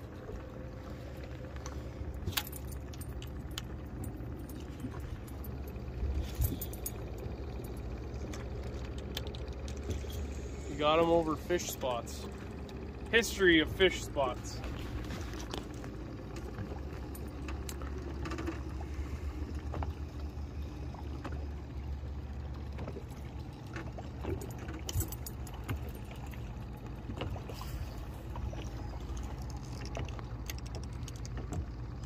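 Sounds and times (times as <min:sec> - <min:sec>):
steady low rumble: 0:00.0 - 0:32.0
water lapping against boat hull: 0:00.0 - 0:32.0.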